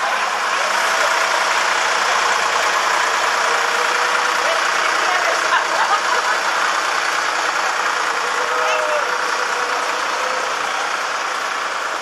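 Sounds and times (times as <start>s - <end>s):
tractor engine running: 0.0s - 12.0s
voices: 0.0s - 12.0s.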